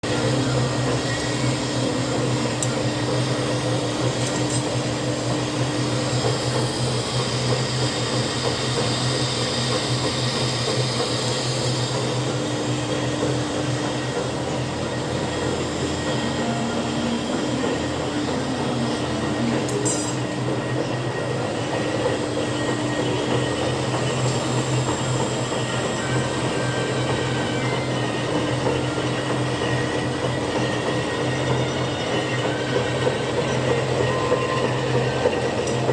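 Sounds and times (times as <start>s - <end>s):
lathe running with low hum: 0.0s - 35.9s.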